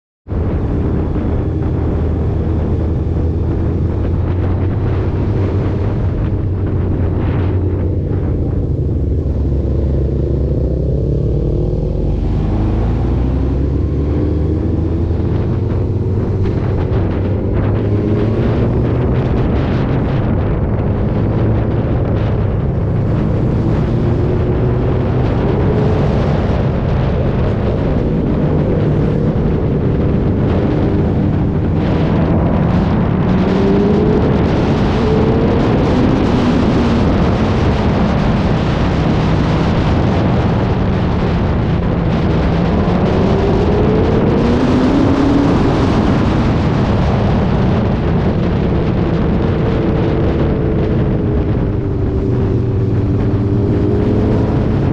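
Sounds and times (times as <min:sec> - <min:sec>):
wind buffeting microphone: 0:00.2 - 0:54.9
vehicle engine revving: 0:00.3 - 0:54.9.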